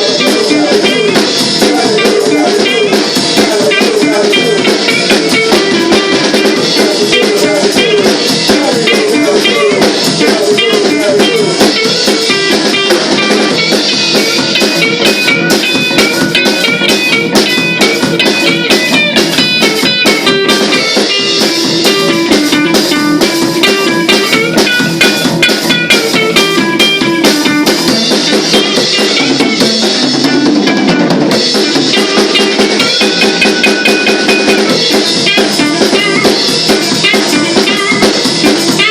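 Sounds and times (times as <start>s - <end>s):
drum kit: 0.0s - 38.9s
electric guitar playing: 0.0s - 38.9s.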